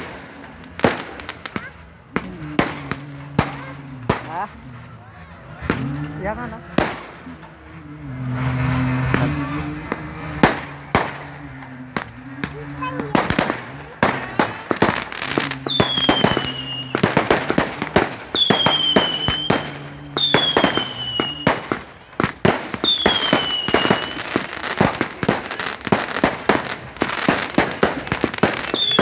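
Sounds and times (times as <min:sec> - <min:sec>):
fireworks bangs and crackles: 0:00.0 - 0:29.0
whistling firework: 0:00.0 - 0:29.0.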